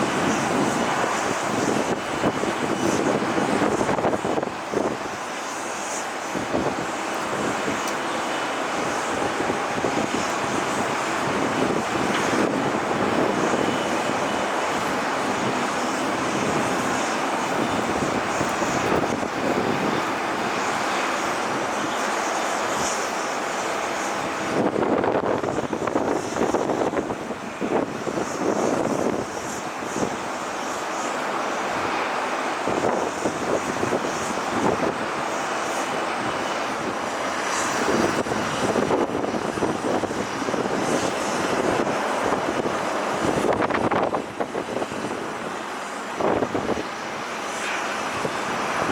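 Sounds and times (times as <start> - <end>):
high engine whine: 0.0 - 48.9
jet engines rushing: 0.0 - 48.9.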